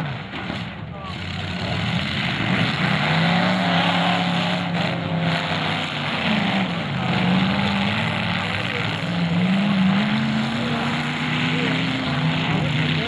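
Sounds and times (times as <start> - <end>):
car engines droning: 0.0 - 13.0.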